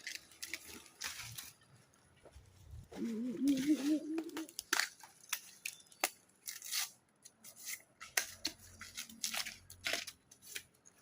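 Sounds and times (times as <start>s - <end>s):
bamboo snapping and crunching: 0.0s - 2.0s, 2.8s - 11.0s.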